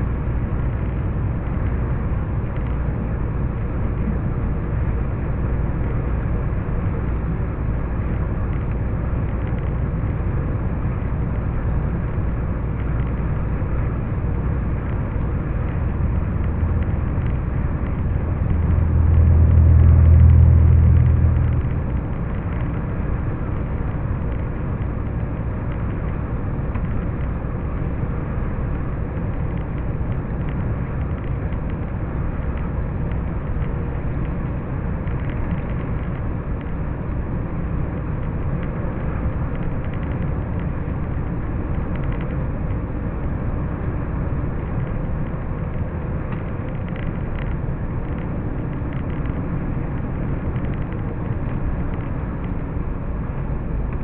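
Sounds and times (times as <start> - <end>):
low rumble: 0.0 - 54.0
vehicle road and engine drone: 0.0 - 54.0.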